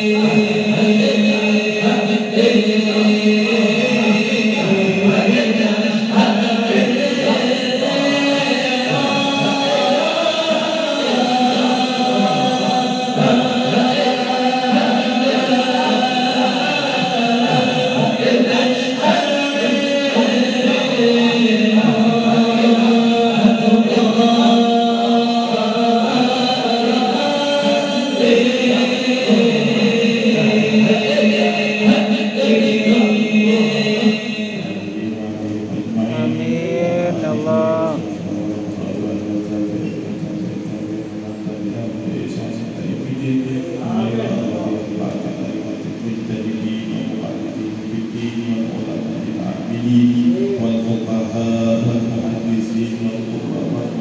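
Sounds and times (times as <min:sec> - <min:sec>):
lead singer on microphone: 0:00.0 - 0:54.0
men chanting in unison: 0:00.0 - 0:54.0.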